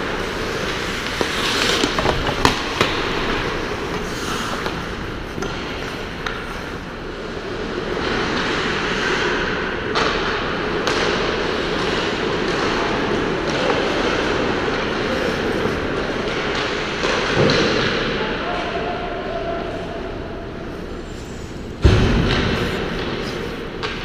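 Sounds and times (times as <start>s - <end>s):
skates scraping on ice: 0.0s - 17.9s, 20.8s - 24.0s
hockey sticks and puck clacking: 0.0s - 18.7s, 21.5s - 24.0s.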